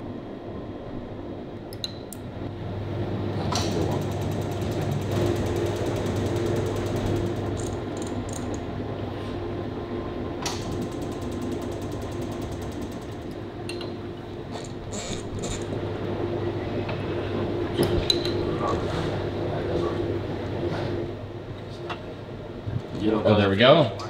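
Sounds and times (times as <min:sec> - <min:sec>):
fan and electrical hum: 0:00.0 - 0:24.0.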